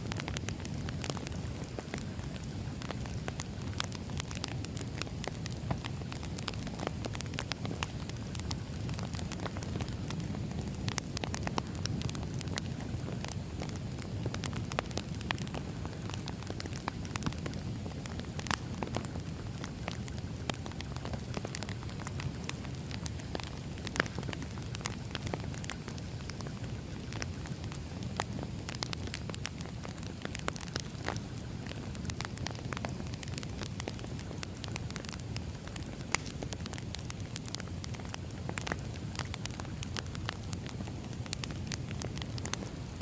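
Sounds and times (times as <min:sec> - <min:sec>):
firewood crackling and popping: 0:00.0 - 0:43.0
low rumble of fire: 0:00.0 - 0:43.0.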